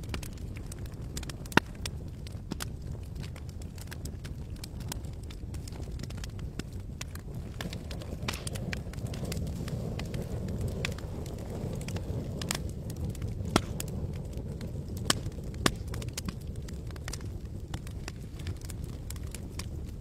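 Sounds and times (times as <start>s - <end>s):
campfire pops and snaps: 0.0s - 20.0s
low rumble of flames: 0.0s - 20.0s.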